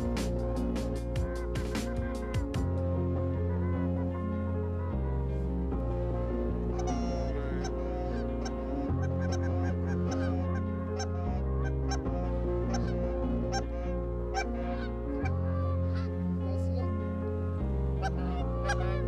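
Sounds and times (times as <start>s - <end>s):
background music with held chords: 0.0s - 19.0s
geese honking: 0.0s - 19.0s.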